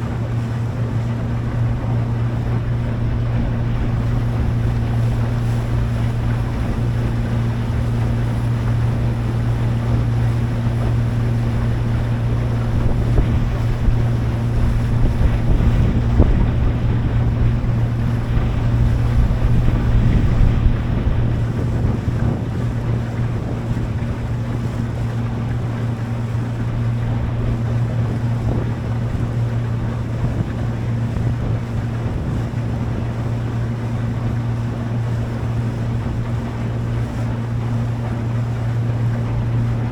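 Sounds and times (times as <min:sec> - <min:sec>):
boat engine running: 0:00.0 - 0:39.9
water rushing past hull: 0:00.0 - 0:39.9
wind on microphone: 0:00.0 - 0:39.9.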